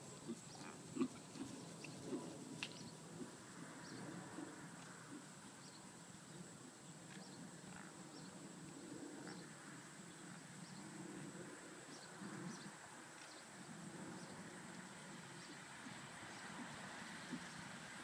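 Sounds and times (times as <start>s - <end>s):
low background noise: 0.0s - 18.0s.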